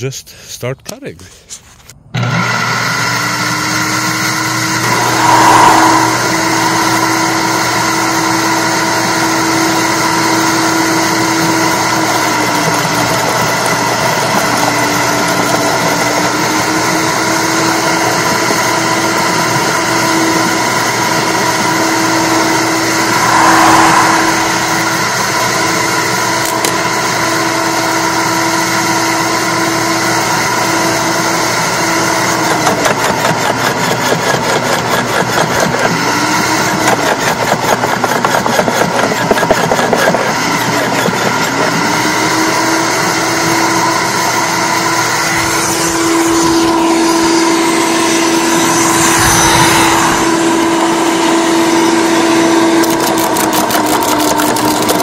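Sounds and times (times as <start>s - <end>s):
electric wood chipper whining: 2.1s - 55.0s.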